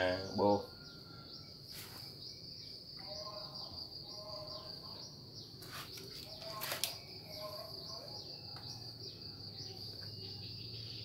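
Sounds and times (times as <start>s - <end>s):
insect trilling: 0.0s - 11.0s.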